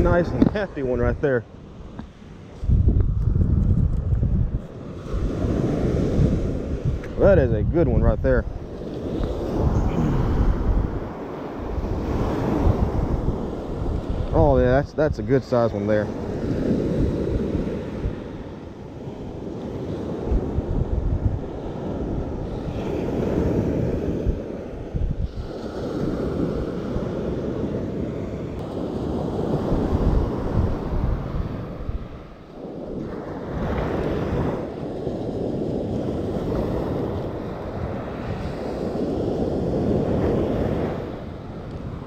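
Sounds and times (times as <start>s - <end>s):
surf washing onto beach: 0.0s - 42.0s
wind buffeting microphone: 0.0s - 42.0s.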